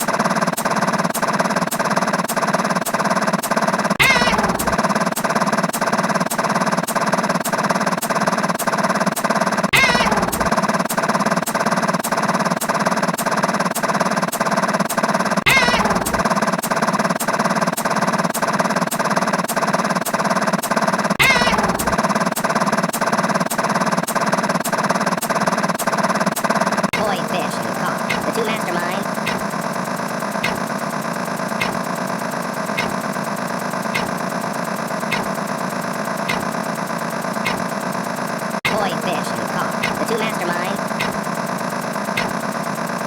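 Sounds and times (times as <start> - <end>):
buzzing drone with rapid clicks: 0.0 - 43.0.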